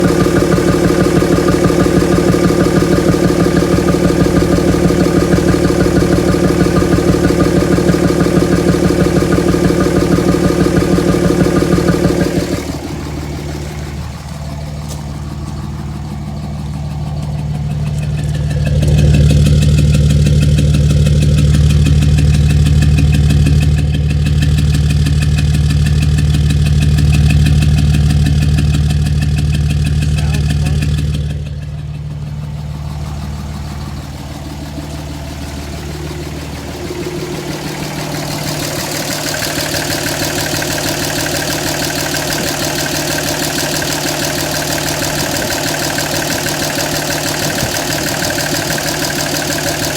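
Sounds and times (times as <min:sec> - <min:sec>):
diesel engine idling roughly: 0:00.0 - 0:49.9.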